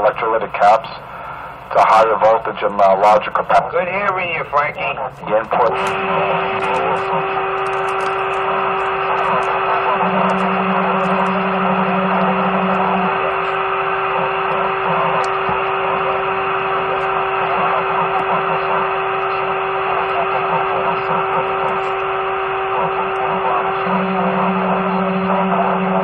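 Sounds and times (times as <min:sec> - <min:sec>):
lower hum tone: 0:00.0 - 0:26.0
radio static hiss: 0:00.0 - 0:26.0
steady hum tone: 0:00.0 - 0:26.0.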